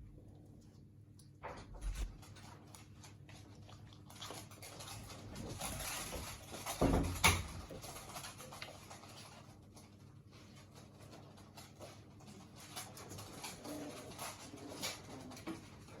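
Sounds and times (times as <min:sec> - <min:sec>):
puppies scrabbling and shuffling: 0:00.0 - 0:16.0.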